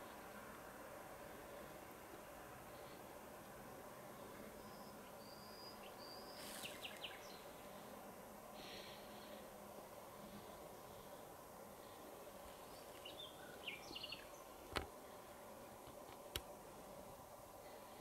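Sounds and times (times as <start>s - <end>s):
outdoor ambience hiss: 0.0s - 18.0s.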